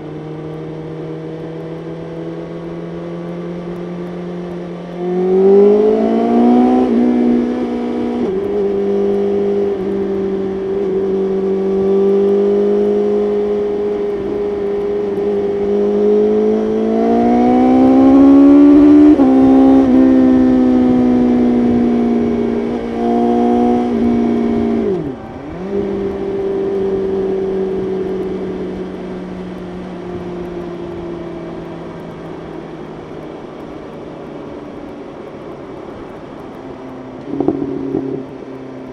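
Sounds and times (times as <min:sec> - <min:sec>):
motorcycle engine with upshifts: 0:00.0 - 0:38.9.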